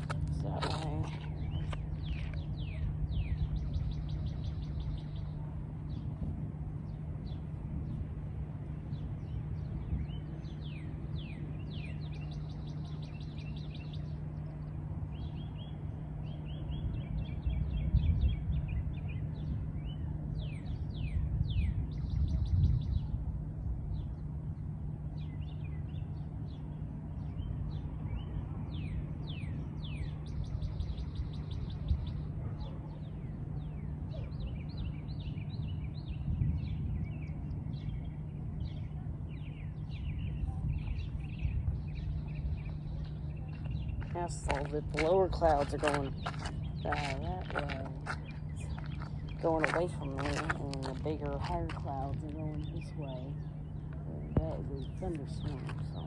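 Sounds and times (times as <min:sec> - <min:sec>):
birds whistling and trilling: 0:00.0 - 0:07.6, 0:08.7 - 0:23.2, 0:23.9 - 0:56.0
low hum and rumble: 0:00.0 - 0:56.0.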